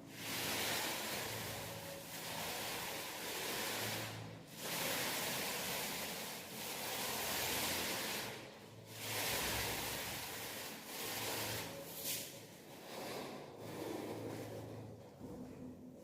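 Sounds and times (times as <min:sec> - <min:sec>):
paint roller on wall: 0:00.0 - 0:16.0.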